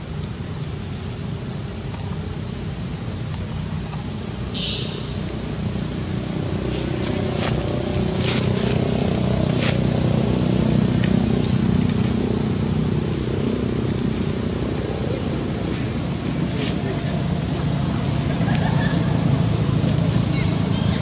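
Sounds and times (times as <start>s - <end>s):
passing vehicle engine hum: 0.0s - 21.0s.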